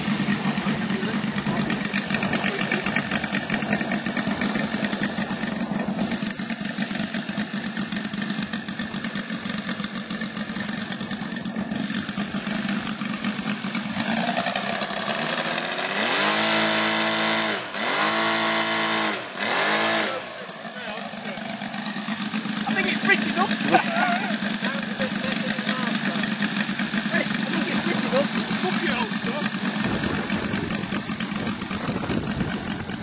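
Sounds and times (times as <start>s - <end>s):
model aircraft engine running: 0.0s - 33.0s.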